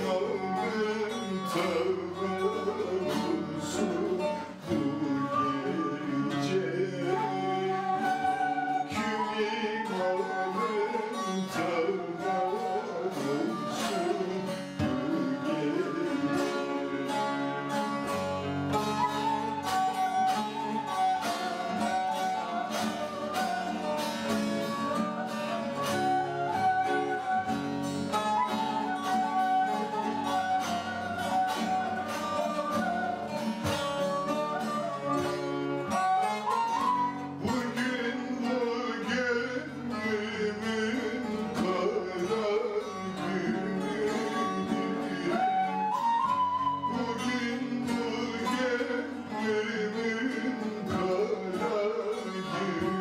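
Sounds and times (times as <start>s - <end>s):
acoustic guitar: 0.0s - 53.0s
folk tune on plucked lute: 0.0s - 53.0s.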